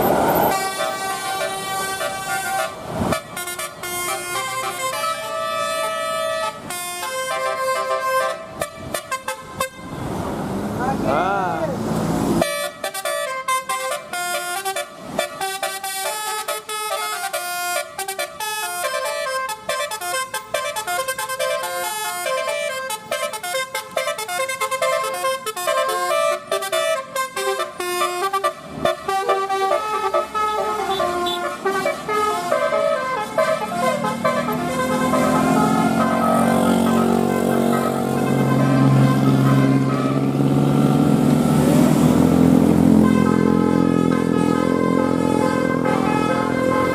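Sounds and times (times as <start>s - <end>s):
multi-tone bus horn melody: 0.0s - 10.0s, 12.4s - 46.9s.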